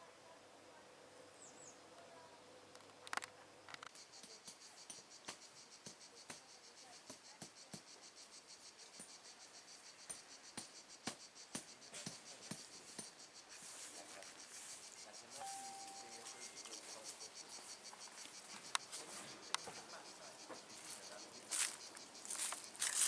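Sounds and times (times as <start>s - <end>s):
high insect chirping: 2.7s - 23.0s.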